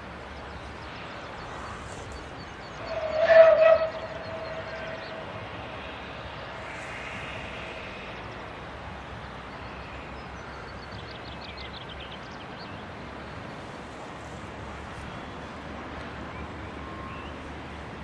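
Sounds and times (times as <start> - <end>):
distant steam locomotive rumble: 0.0 - 18.0.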